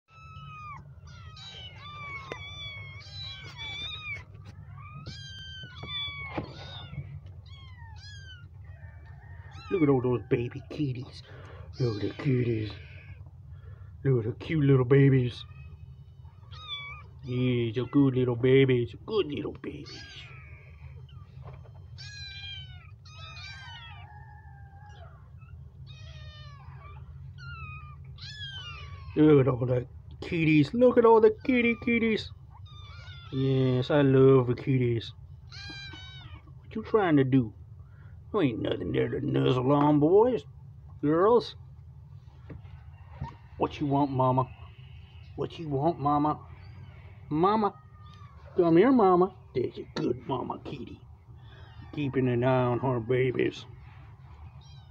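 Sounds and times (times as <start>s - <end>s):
kittens meowing: 0.0s - 54.9s
steady low hum: 0.1s - 54.9s.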